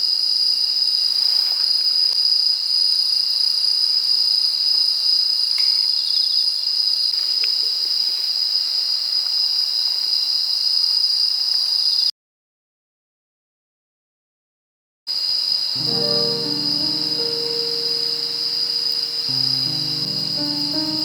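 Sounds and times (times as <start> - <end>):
crickets chirping chorus: 0.0 - 12.1, 15.1 - 21.0.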